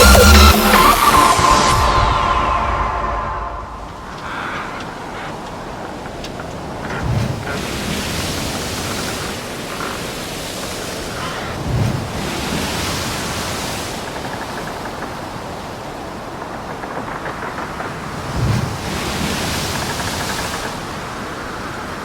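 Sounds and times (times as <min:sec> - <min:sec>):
low buffeting wind gusts: 0:01.6 - 0:22.0.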